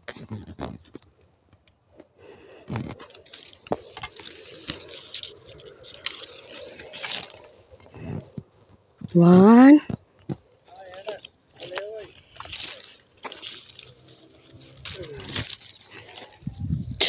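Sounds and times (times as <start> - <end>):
leaves and twigs rustling: 0.1 - 17.0
twigs snapping: 0.7 - 8.8, 9.9 - 17.0.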